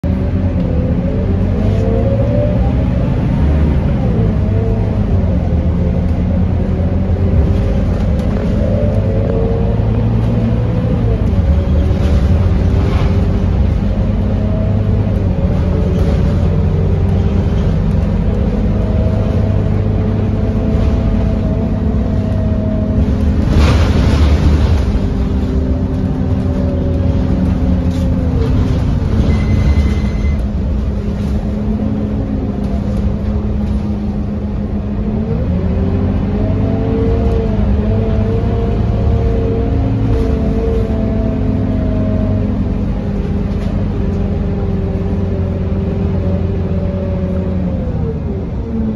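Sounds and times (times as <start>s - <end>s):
bus engine rumbling with whine: 0.0s - 48.9s.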